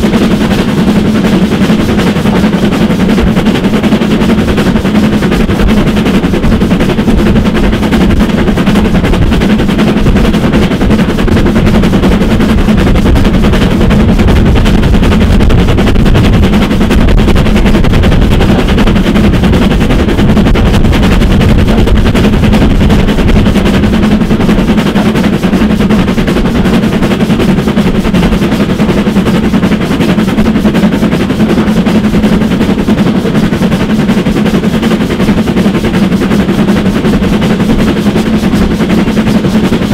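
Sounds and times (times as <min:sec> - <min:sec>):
running noise of moving train: 0:00.0 - 0:39.9
steam locomotive exhaust beats: 0:00.0 - 0:39.9.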